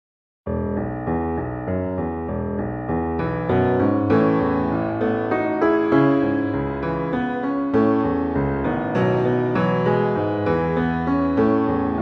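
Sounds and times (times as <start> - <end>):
piano music: 0.5 - 12.0.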